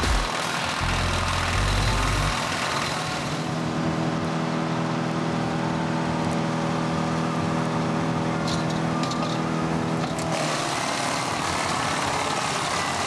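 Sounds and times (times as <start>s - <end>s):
wood chipper running: 0.0s - 13.0s.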